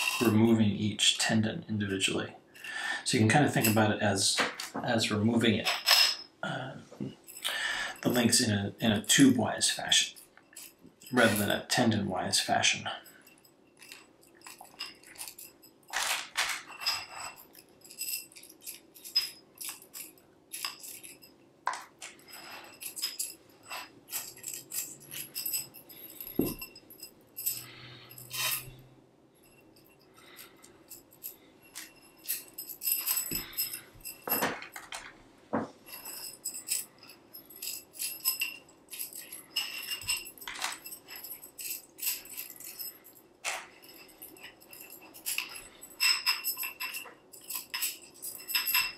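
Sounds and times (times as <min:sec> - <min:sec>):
metal tubes clinking and rattling: 0:00.0 - 0:48.9.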